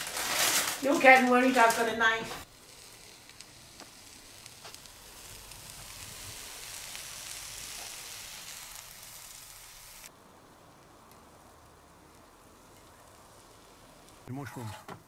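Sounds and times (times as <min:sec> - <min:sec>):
food sizzling on barbecue: 0:00.0 - 0:14.7.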